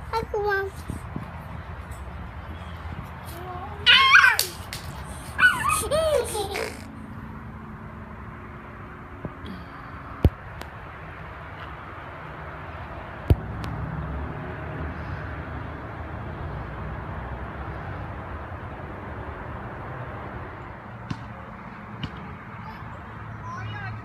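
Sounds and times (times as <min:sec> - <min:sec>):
outdoor background rumble: 0:00.0 - 0:24.0.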